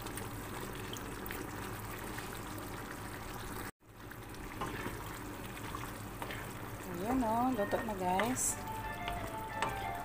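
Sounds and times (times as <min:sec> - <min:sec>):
sauce simmering and bubbling: 0:00.0 - 0:10.0.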